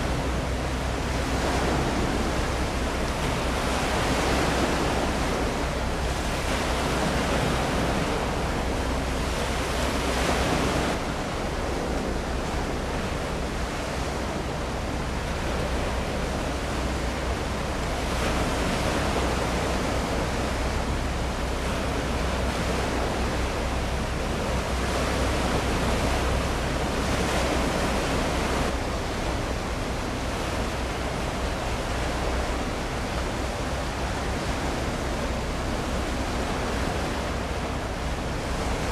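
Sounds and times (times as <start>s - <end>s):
wind and water rushing: 0.0s - 38.9s.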